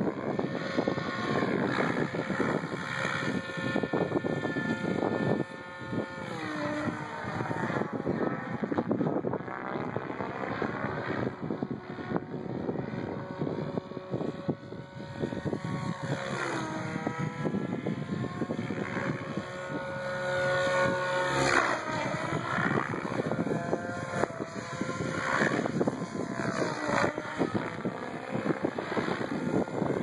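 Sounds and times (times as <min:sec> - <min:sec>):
rc helicopter rotor and motor whine: 0:00.0 - 0:30.0.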